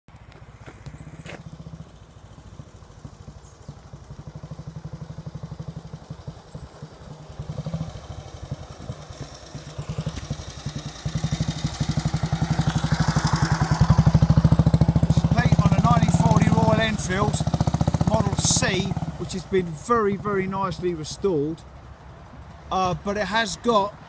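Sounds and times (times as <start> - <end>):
motorcycle engine running: 0.3 - 20.9.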